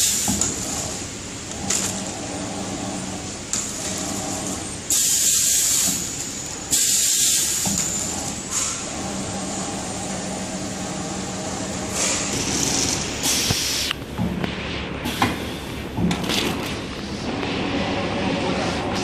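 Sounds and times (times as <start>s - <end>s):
wrapping machine humming: 0.0s - 19.0s.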